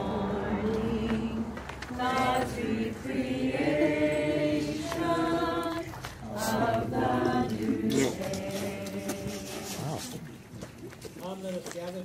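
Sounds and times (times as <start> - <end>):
group singing a hymn: 0.0 - 10.1.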